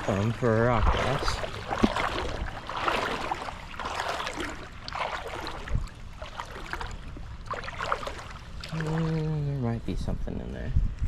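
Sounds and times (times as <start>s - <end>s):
louder water splashes: 0.0s - 9.6s
creek water rushing: 0.0s - 9.7s.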